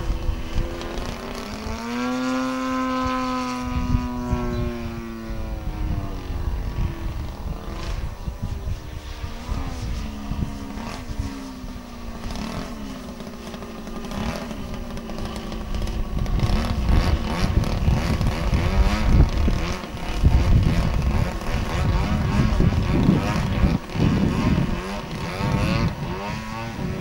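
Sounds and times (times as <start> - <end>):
model airplane engine: 0.0 - 27.0
wind buffeting microphone: 0.0 - 27.0.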